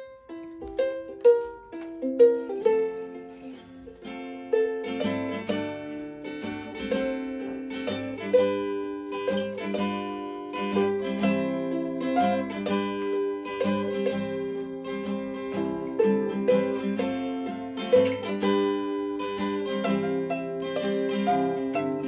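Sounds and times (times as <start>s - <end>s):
plucked acoustic strings: 0.0s - 22.0s.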